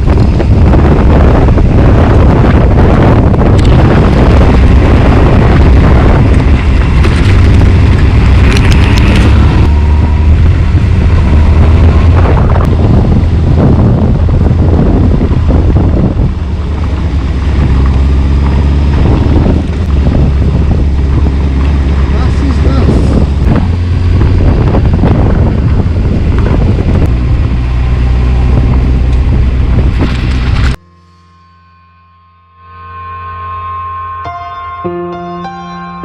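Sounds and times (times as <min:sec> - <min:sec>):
wind noise on microphone: 0:00.0 - 0:30.9
motorcycle engine running: 0:00.0 - 0:34.1.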